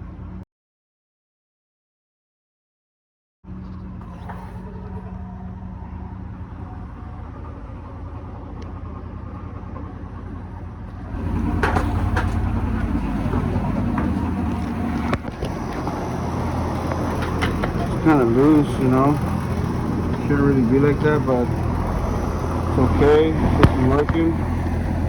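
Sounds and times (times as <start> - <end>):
fan noise: 3.5 - 25.0
air conditioner unit humming: 3.8 - 25.0.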